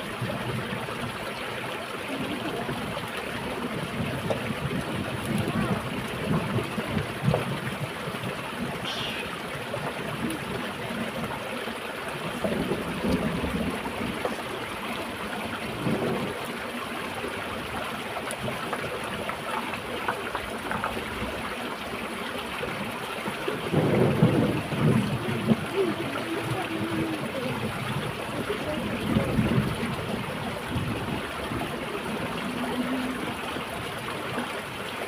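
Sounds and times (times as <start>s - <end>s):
stream running over stones: 0.0s - 35.0s.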